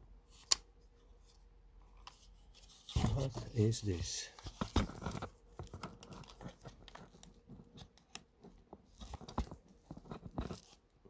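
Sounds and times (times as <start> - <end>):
handling clicks and rustles: 0.4 - 11.0.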